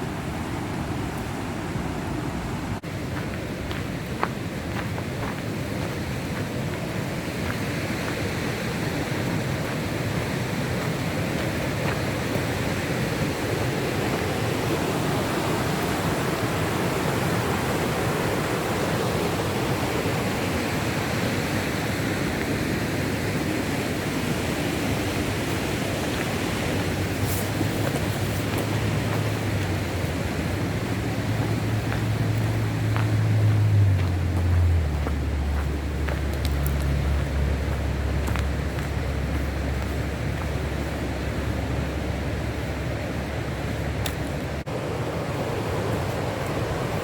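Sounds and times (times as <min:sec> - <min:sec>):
river rapids rushing: 0:00.0 - 0:47.0.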